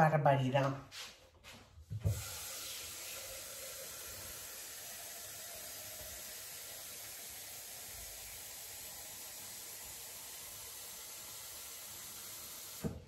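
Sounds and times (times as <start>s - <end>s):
tap water filling container: 2.0s - 13.0s.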